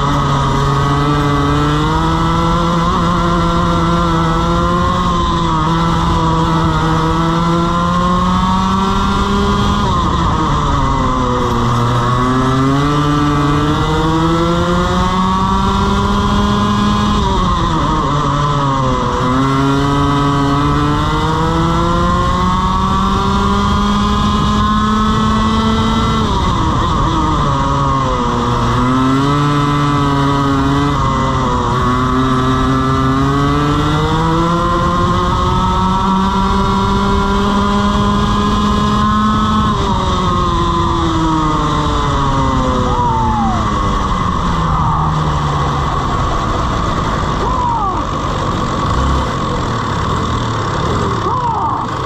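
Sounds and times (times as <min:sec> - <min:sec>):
kart engine accelerating and braking: 0:00.0 - 0:52.0.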